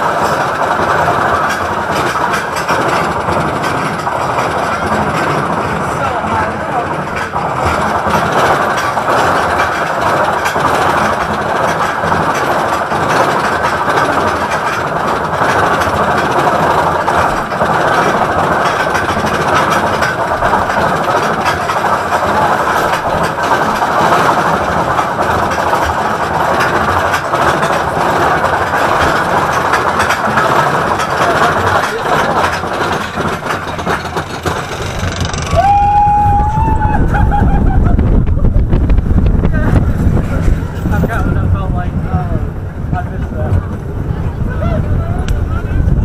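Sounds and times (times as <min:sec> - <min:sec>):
roller coaster wheels rattling: 0:00.0 - 0:46.0.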